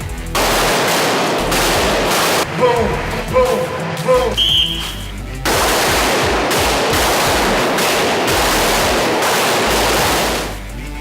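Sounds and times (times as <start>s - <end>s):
handguns firing: 0.0s - 10.7s.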